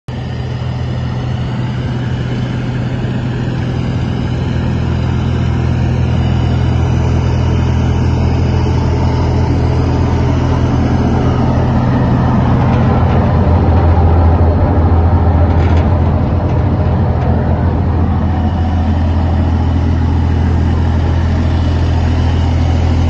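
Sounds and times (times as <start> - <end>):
wood chipper engine droning: 0.1 - 23.0.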